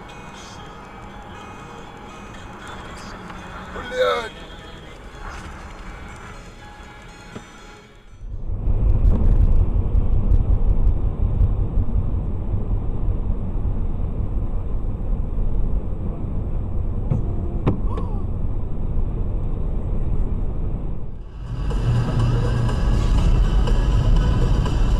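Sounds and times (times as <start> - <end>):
car road and engine rumble: 0.0 - 24.9.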